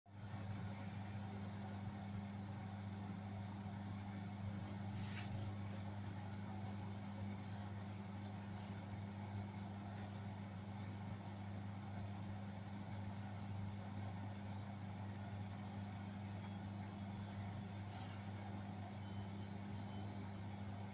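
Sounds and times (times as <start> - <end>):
washing machine low hum: 0.1 - 20.9.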